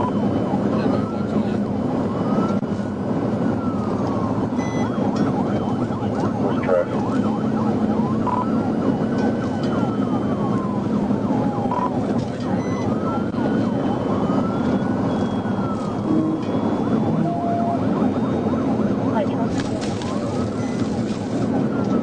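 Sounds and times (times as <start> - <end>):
police siren wailing: 0.0 - 22.0
road and engine noise: 0.0 - 22.0.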